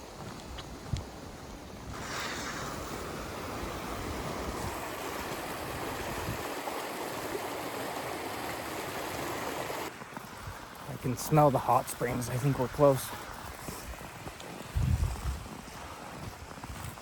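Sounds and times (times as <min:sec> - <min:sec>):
flowing water: 0:00.0 - 0:17.0.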